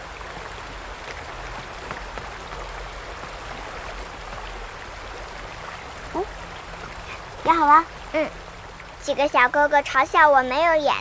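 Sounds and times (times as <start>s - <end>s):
waterfall splashing into pond: 0.0s - 11.0s.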